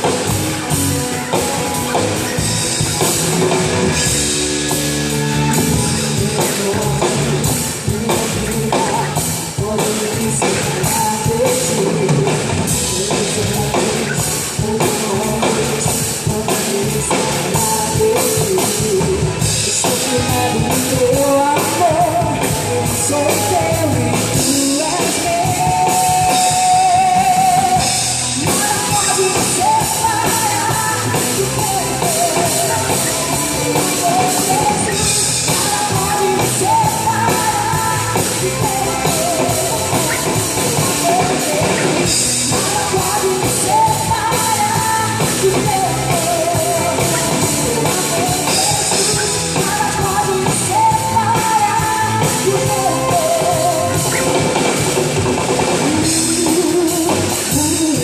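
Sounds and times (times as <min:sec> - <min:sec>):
drum kit: 0:00.0 - 0:58.0
guitar: 0:00.0 - 0:58.0
melodic lead line bending notes: 0:00.0 - 0:58.0
rock band playing: 0:00.0 - 0:58.0.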